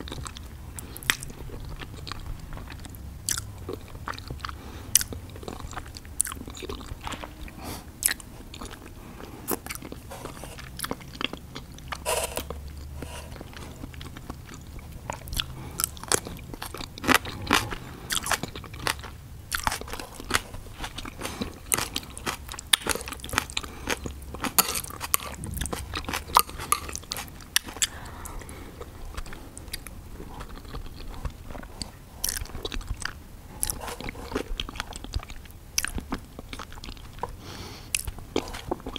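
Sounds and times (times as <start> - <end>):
mouth chewing and slurping noodles: 0.0 - 38.9.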